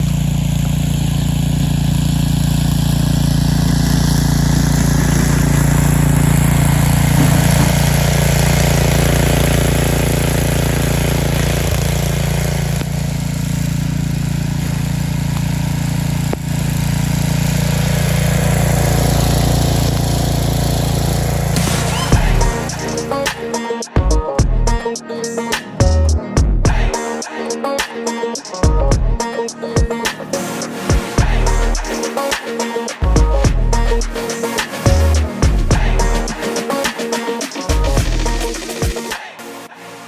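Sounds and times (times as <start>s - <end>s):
small engine running steadily: 0.0s - 24.8s, 25.7s - 39.0s.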